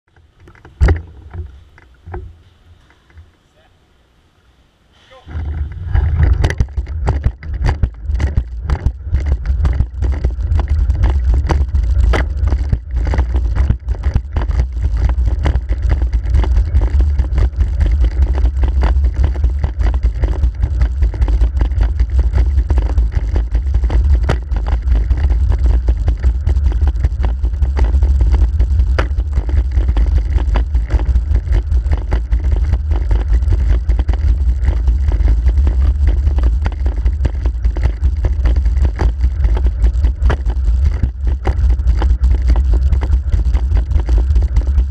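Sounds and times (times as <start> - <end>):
wheelchair wheels rumbling: 5.1 - 44.9.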